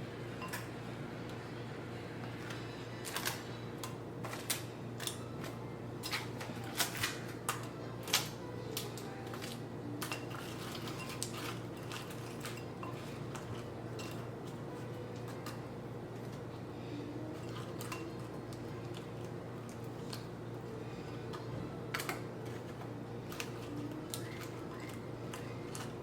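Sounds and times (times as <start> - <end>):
steady low hum: 0.0 - 26.0
utensils and dishes clinking: 0.4 - 0.7, 2.2 - 26.0.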